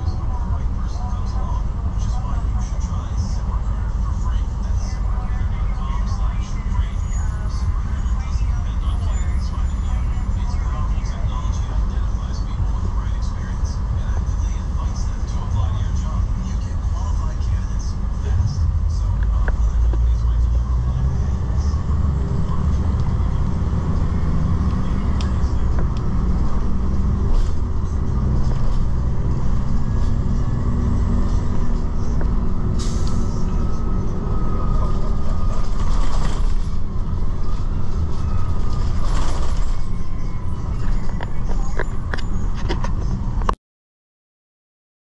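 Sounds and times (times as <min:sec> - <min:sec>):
vehicle engine and road rumble: 0:00.0 - 0:43.6.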